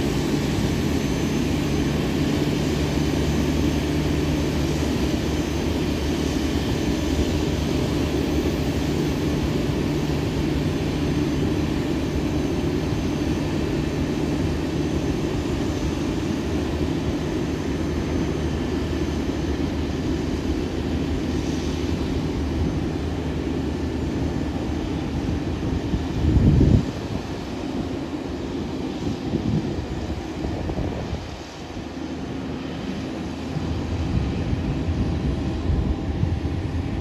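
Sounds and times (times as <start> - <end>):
airliner and tug mechanical hum: 0.0 - 37.0.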